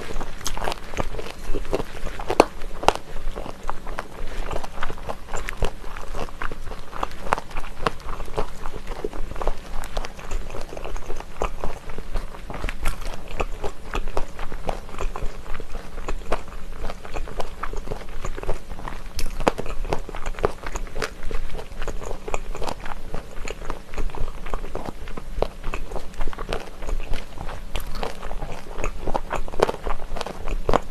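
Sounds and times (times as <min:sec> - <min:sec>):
chewing crunchy food: 0:00.0 - 0:30.9.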